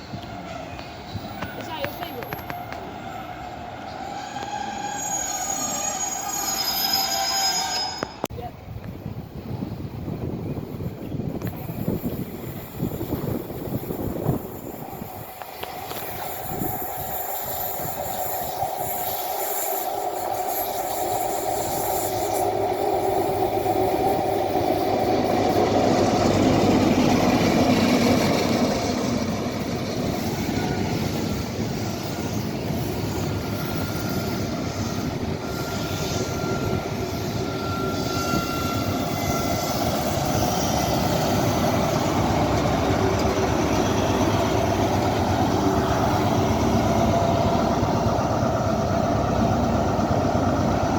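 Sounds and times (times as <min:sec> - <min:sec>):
high squeal from wheels: 0:00.0 - 0:08.3, 0:11.7 - 0:50.8
train running: 0:00.0 - 0:50.9.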